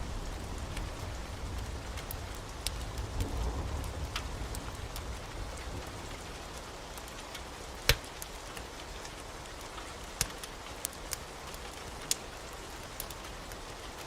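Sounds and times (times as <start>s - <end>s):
heavy rain hissing: 0.0s - 14.0s
wood fire popping: 0.0s - 14.0s.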